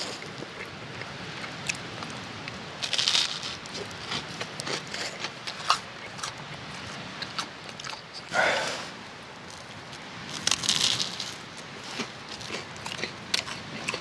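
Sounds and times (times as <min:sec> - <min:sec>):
crunchy biting and chewing: 0:00.0 - 0:14.0.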